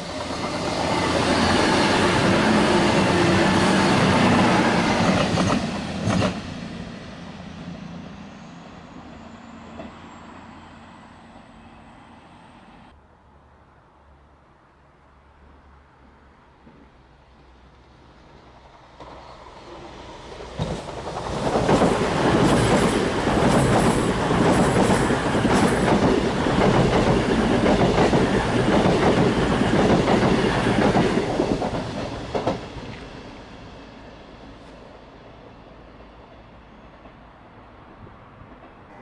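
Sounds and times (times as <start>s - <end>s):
diesel train passing at speed: 0.0s - 13.4s, 15.4s - 39.0s.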